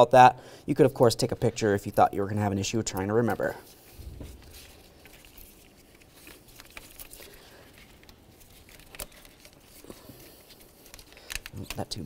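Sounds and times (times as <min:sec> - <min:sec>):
rubber and plastic clicks and rustles: 0:00.9 - 0:12.0.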